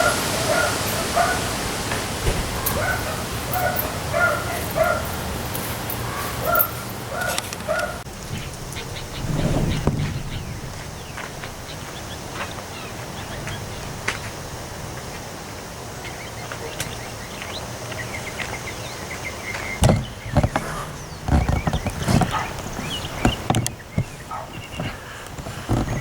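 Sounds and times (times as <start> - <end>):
wind gusts buffeting microphone: 0.0 - 5.5, 7.9 - 26.0
small birds chirping: 0.0 - 26.0
wind and rain: 0.0 - 26.0.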